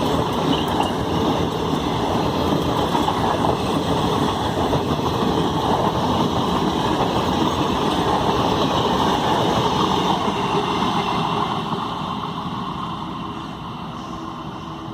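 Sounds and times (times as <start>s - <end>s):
train passing with loud rattle: 0.0s - 14.9s.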